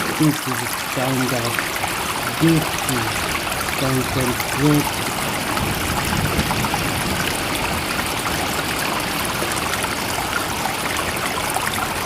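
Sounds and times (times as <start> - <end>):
rushing trickling water: 0.0 - 12.0.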